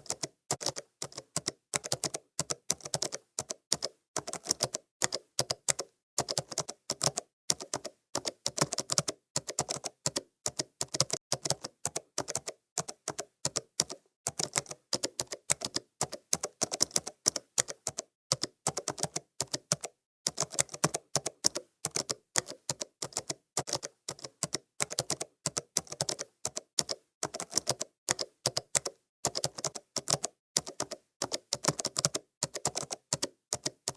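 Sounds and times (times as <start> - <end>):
computer keyboard typing: 0.0 - 33.9.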